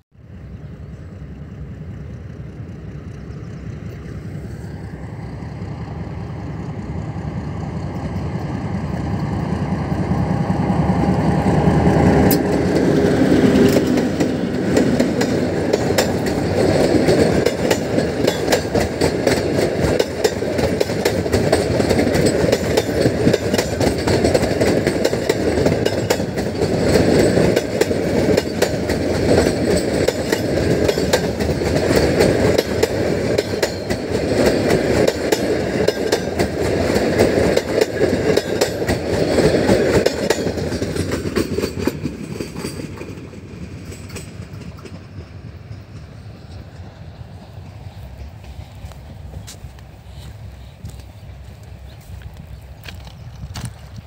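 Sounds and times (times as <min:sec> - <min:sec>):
diesel train passing: 0:00.1 - 0:54.0
steel wheels clicking on rails: 0:01.0 - 0:54.0.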